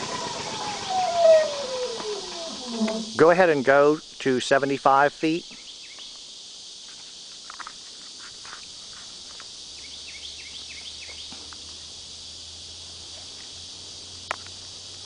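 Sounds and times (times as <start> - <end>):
high-pitched insect droning: 0.0 - 15.0.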